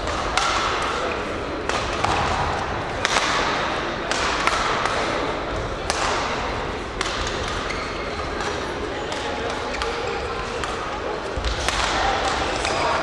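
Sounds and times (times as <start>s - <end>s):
rackets hitting shuttlecock: 0.0s - 13.0s.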